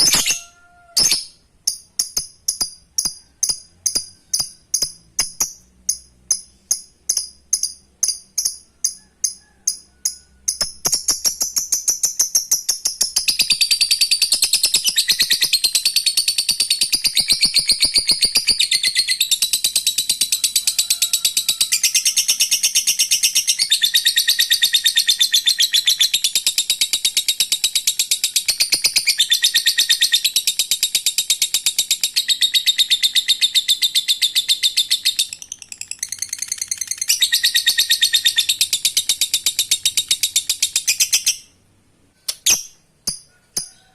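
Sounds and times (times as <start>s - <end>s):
lovebird chirping and chattering: 0.0s - 41.6s, 42.3s - 43.8s.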